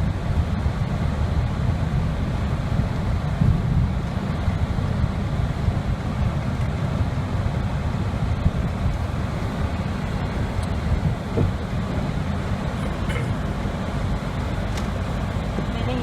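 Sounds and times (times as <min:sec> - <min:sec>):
road rumble: 0:00.0 - 0:16.0
wind: 0:00.0 - 0:16.0.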